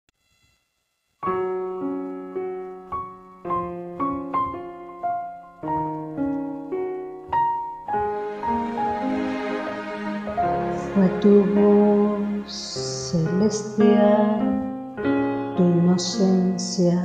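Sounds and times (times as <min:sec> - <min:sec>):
piano ballad backing track: 0:01.2 - 0:17.0.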